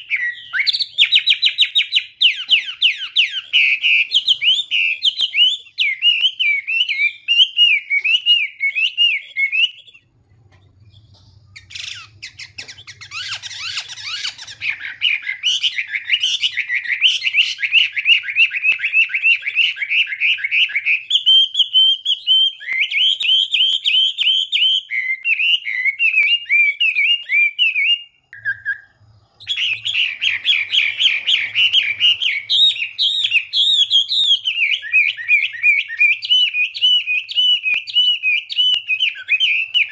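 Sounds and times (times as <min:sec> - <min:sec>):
bird singing whistled phrases: 0:00.0 - 0:10.2, 0:10.8 - 0:39.9.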